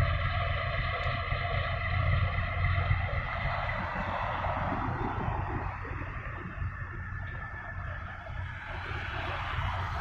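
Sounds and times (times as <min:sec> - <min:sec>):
ship engine drone: 0:00.0 - 0:10.0
wind on microphone: 0:00.0 - 0:10.0.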